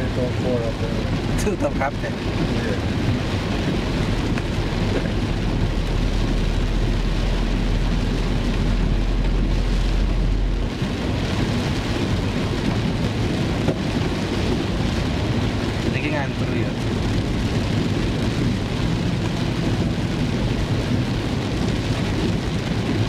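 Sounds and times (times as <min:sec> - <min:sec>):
heavy rain on car roof: 0:00.0 - 0:23.0
road and wind rumble: 0:00.0 - 0:23.0.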